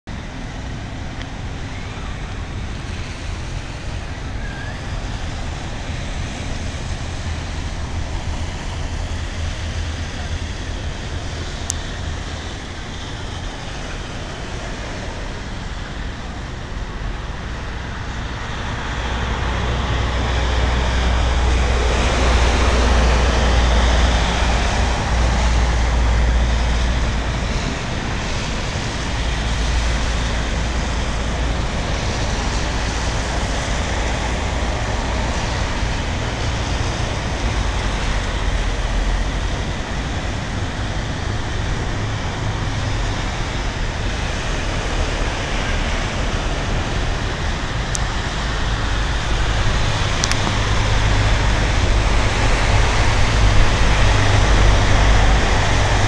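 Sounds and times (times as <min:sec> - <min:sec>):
steady low rumble: 0:00.1 - 0:56.0
tyres hissing on wet road: 0:00.1 - 0:56.0.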